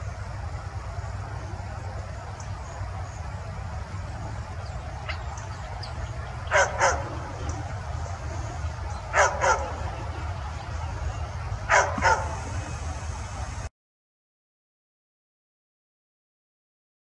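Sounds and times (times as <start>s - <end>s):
steady low rumble: 0.0s - 13.7s.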